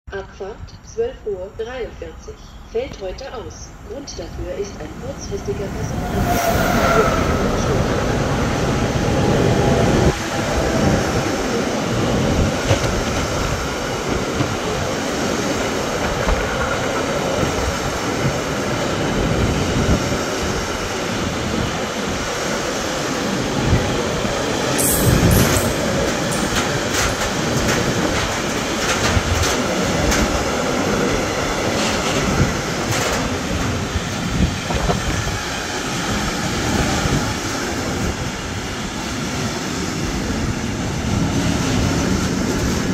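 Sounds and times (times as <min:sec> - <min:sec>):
train wheels rumbling on rail: 0:02.9 - 0:42.9.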